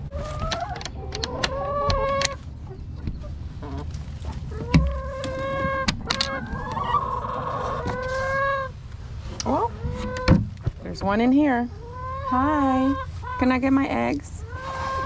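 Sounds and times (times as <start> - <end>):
hens calling: 0.0 - 10.4, 11.0 - 15.0.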